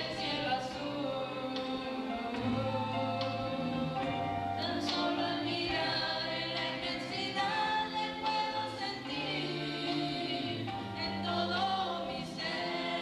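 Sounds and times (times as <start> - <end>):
group singing a hymn: 0.0 - 13.0.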